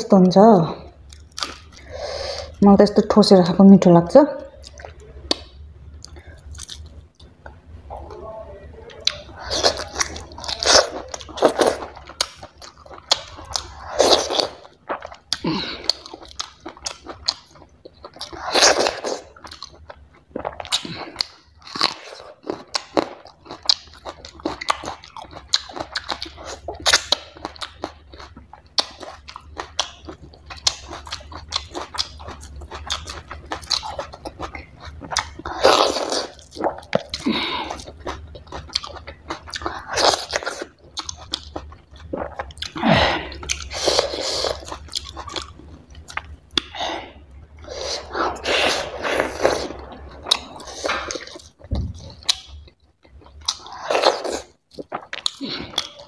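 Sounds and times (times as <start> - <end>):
person chewing wetly: 1.0 - 2.5, 4.6 - 8.1, 8.9 - 56.0.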